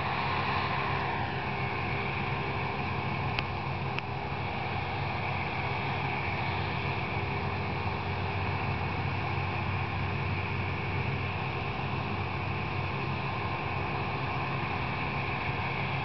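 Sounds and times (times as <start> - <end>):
harvester machinery drone: 0.0 - 16.0
high mechanical whine: 0.0 - 16.0.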